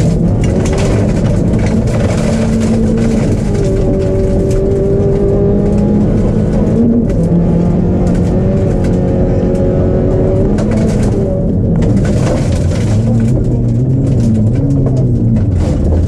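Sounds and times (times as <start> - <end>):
rally car engine at high revs: 0.0 - 16.0
road and tyre noise: 0.0 - 16.0.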